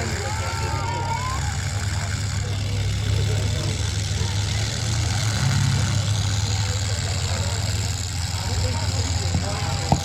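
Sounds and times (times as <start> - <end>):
car engines idling: 0.0 - 10.0.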